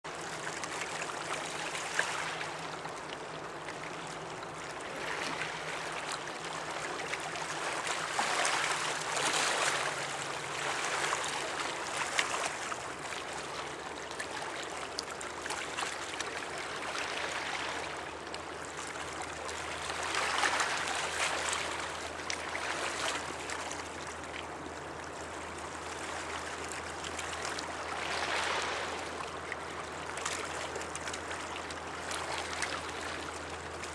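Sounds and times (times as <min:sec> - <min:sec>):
water rushing along riverbank: 0:00.1 - 0:33.9.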